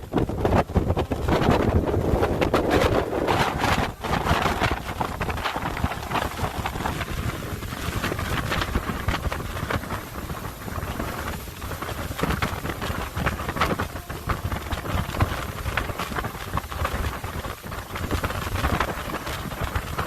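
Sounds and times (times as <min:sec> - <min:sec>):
rain: 0:00.0 - 0:20.0
wind gusting against microphone: 0:00.0 - 0:20.0.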